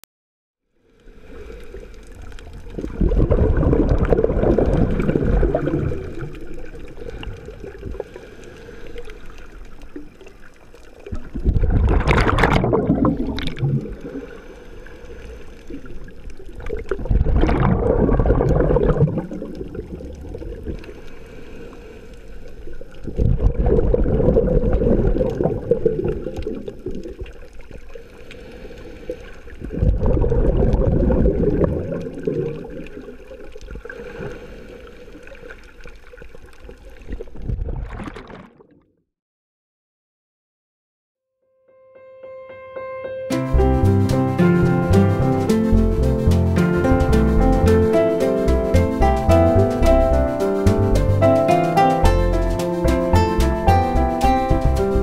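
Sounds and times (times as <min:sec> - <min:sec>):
sea waves washing ashore: 0:00.8 - 0:35.8, 0:43.3 - 0:55.0.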